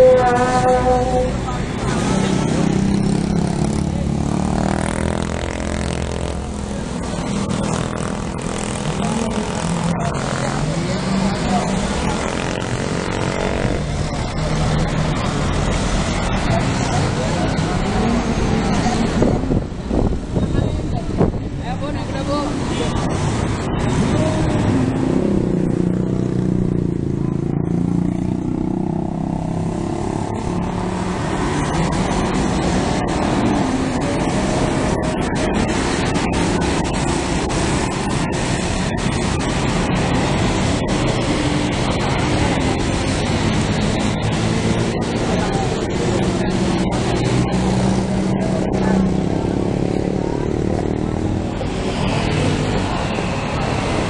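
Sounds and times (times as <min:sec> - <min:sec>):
motorcycle and car engines passing: 0:00.0 - 0:54.0
street traffic: 0:00.0 - 0:54.0.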